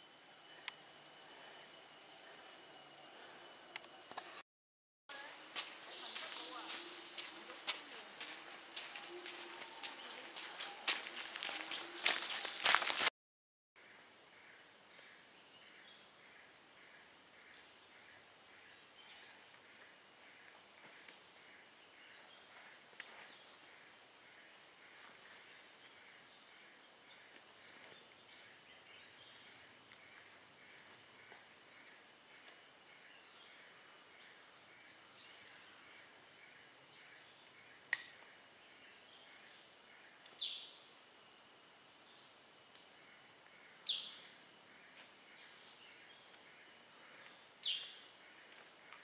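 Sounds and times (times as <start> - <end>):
high-pitched insect drone: 0.0 - 4.4, 5.1 - 13.1, 13.8 - 49.0
pulsing insect call: 0.0 - 4.4, 5.1 - 13.1, 13.8 - 49.0.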